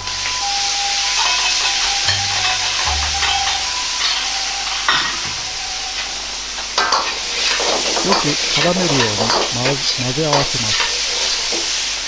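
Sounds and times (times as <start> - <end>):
sauce sizzling in a hot wok: 0.0 - 12.0.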